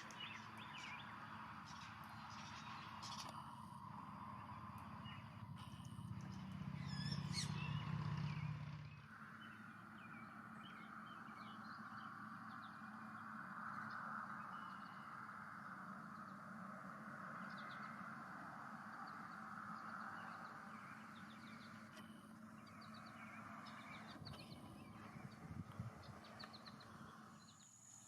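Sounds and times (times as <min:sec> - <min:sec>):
birds chirping: 0:00.0 - 0:28.0
low hum: 0:00.0 - 0:28.0.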